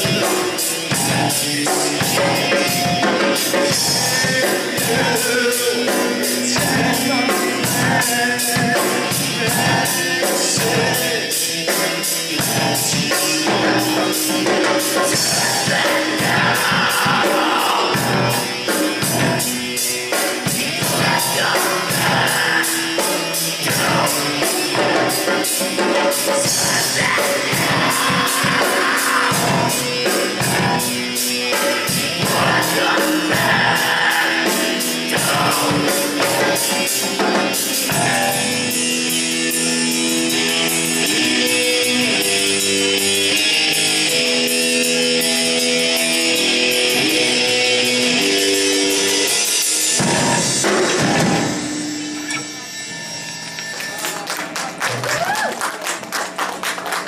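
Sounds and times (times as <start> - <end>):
person singing: 0.0 - 52.7
drum kit with cymbals: 0.0 - 55.4
electric guitar: 0.0 - 57.0.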